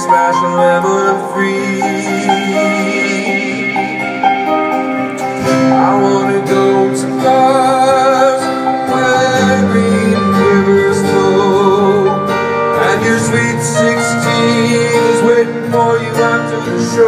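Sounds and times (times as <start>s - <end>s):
guitar: 0.0s - 17.0s
keyboard chords: 0.0s - 17.0s
bass: 2.2s - 17.0s.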